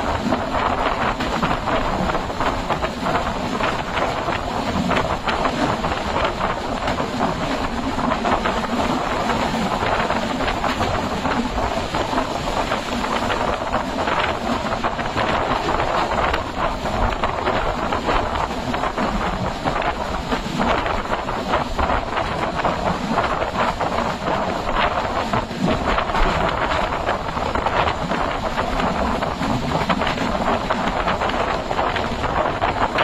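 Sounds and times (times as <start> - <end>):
train rushing rumble: 0.0 - 33.0.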